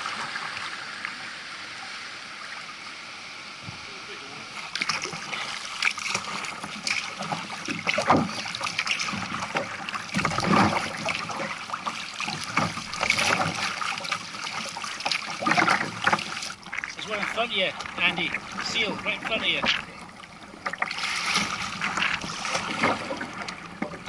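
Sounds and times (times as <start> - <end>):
water splashing against kayak: 4.4 - 24.0.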